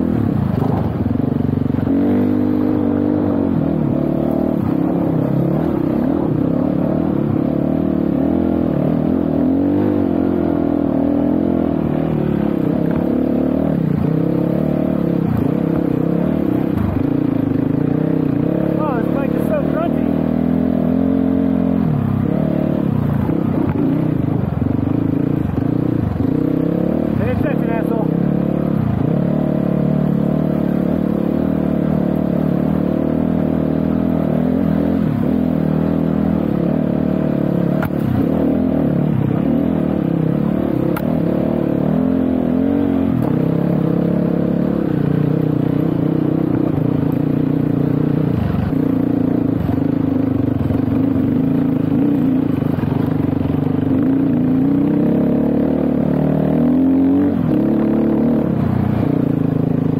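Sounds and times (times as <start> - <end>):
dirt bike engine revving: 1.7 - 59.9.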